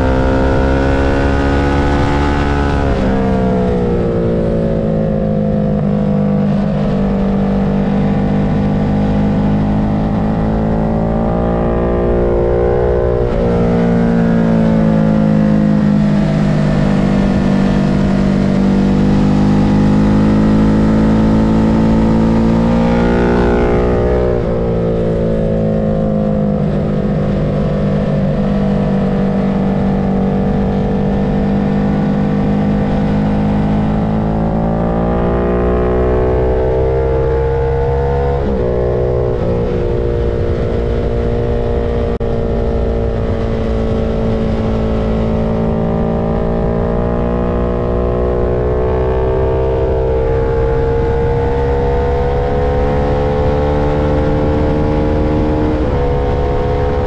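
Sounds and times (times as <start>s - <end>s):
race car engine at speed: 0.0s - 57.0s.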